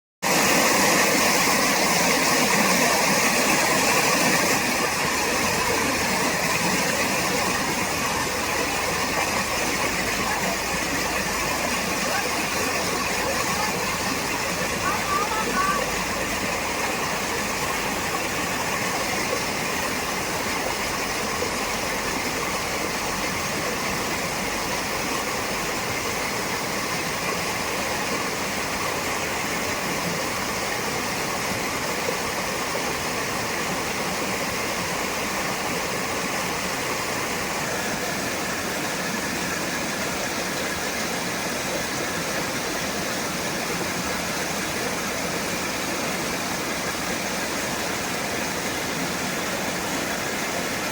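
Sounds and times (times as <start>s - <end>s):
water rushing: 0.2s - 50.9s.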